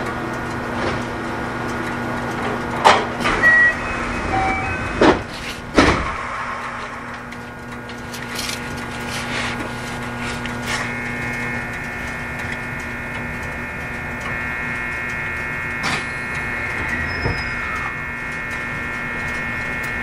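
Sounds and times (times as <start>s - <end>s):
electric inverter whine: 0.0s - 20.0s
train car running noise: 0.0s - 20.0s.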